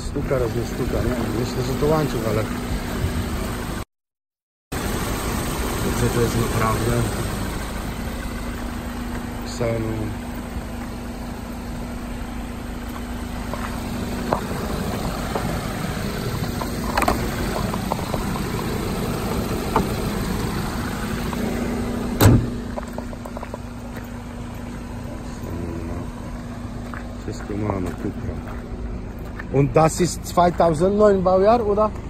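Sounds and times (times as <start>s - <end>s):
car engine idling with knock: 4.7s - 32.0s.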